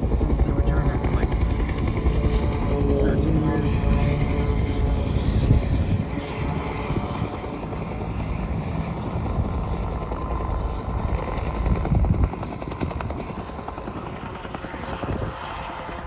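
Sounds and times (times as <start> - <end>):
propeller airplane engine droning: 0.0 - 16.0.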